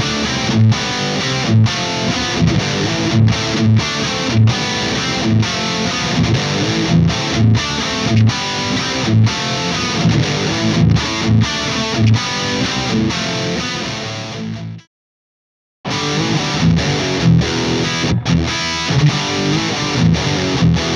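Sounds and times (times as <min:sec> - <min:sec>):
overdriven electric guitar riff: 0:00.0 - 0:14.9, 0:15.9 - 0:20.9.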